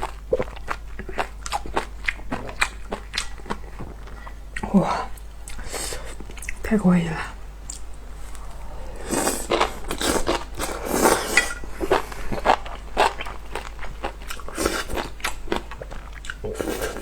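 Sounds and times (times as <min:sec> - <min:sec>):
person chewing food: 0:00.0 - 0:06.6, 0:07.7 - 0:17.0.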